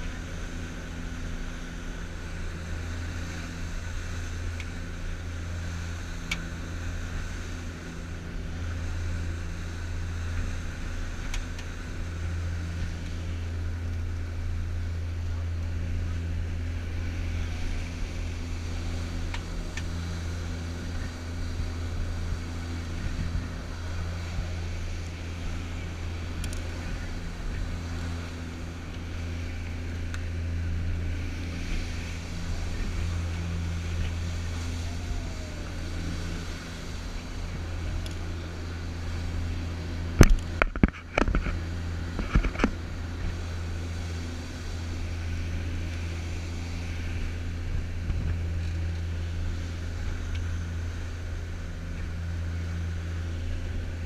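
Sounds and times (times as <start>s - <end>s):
boat engine drone: 0.0s - 54.0s
wake rushing: 0.0s - 54.0s
wind: 0.0s - 54.0s.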